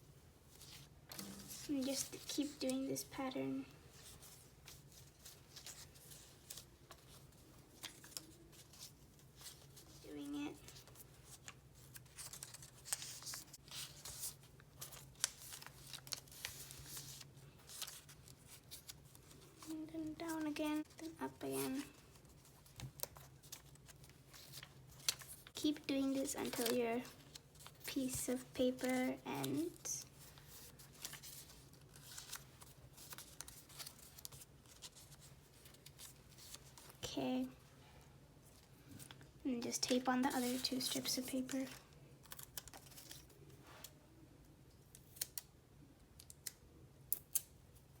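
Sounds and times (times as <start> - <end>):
paper rustling and creasing: 0.5 - 37.6, 38.5 - 44.0.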